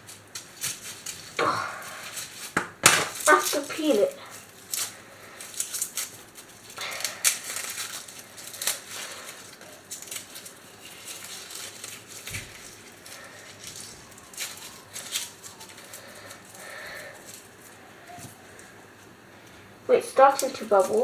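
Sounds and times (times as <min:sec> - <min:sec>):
garlic skin crackling: 0:00.0 - 0:21.0.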